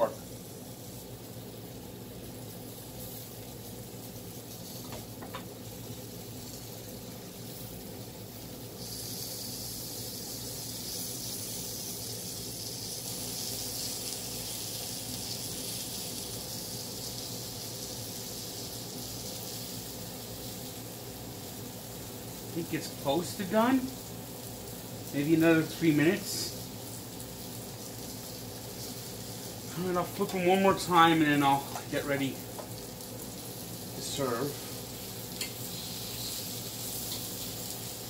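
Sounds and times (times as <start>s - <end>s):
chicken sizzling on a grill: 0.0s - 38.0s.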